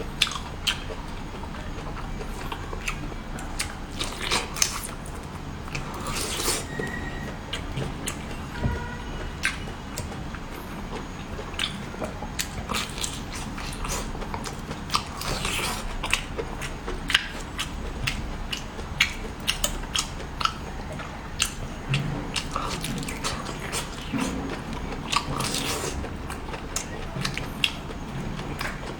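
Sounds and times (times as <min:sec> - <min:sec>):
person chewing wetly: 0:00.0 - 0:28.9.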